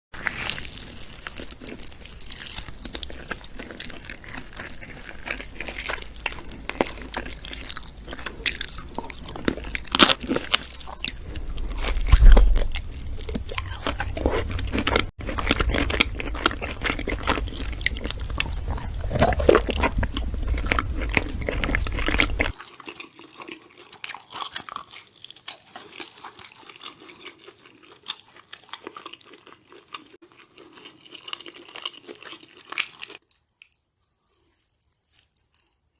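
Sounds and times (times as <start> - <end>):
person chewing meat: 0.2 - 35.9.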